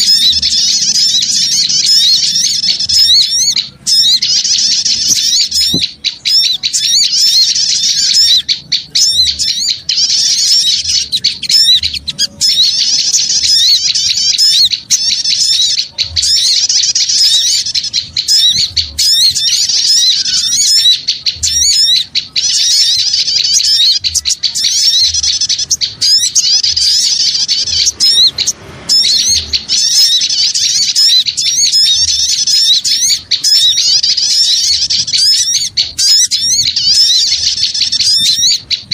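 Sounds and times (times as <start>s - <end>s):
small birds chirping and trilling: 0.0s - 38.9s.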